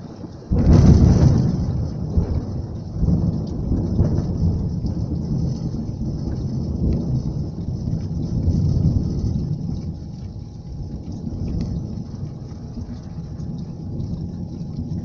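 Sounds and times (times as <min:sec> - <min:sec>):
rain falling on street: 0:00.0 - 0:15.0
rolling thunder: 0:00.0 - 0:15.0.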